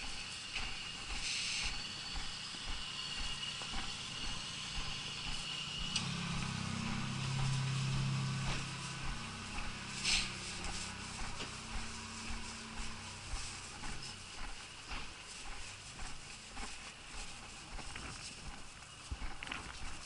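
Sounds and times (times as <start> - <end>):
footsteps on street: 0.0 - 20.0
vehicle engine hum: 0.0 - 20.0.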